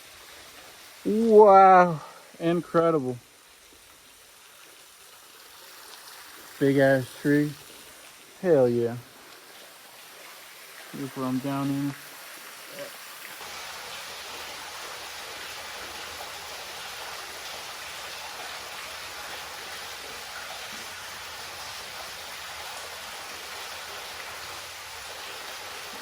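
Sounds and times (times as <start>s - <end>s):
running water hiss: 0.0s - 26.0s.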